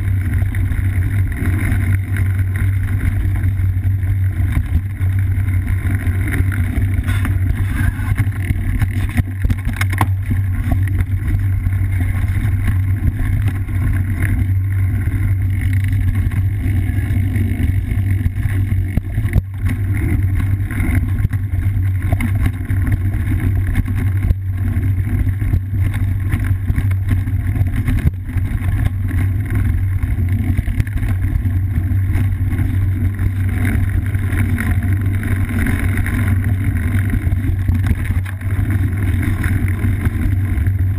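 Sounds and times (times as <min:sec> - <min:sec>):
bike tyres on dirt: 0:00.0 - 0:40.9
wind rumble on camera: 0:00.0 - 0:40.9.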